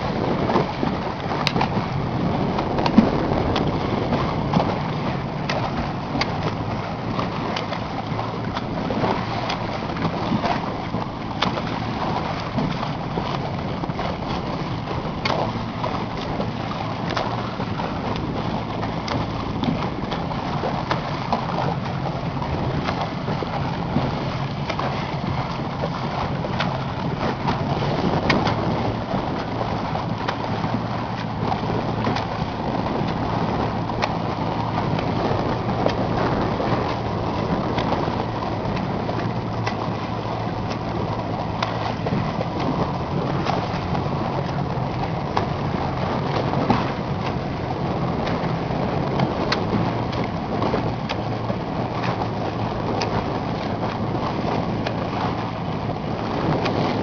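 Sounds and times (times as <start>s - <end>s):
boat motor humming: 0.0s - 57.0s
rush of wind and water: 0.0s - 57.0s
water splashes: 0.0s - 57.0s.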